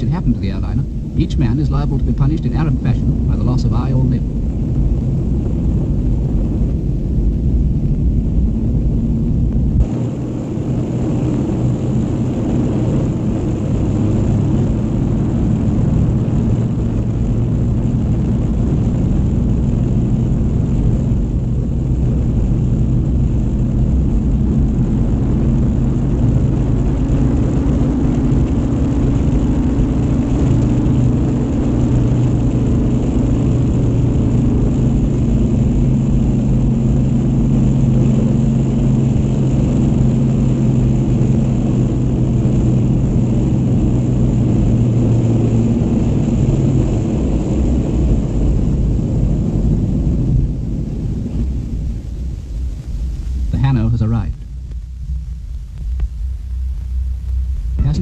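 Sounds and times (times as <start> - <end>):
propeller engines droning: 0.0 - 58.0.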